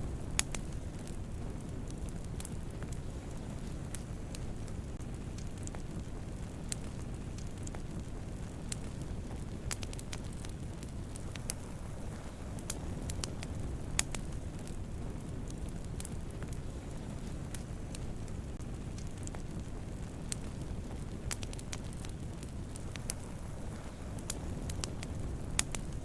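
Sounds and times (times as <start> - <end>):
campfire flames rumbling: 0.0 - 26.0
fire crackling and popping: 0.0 - 26.0.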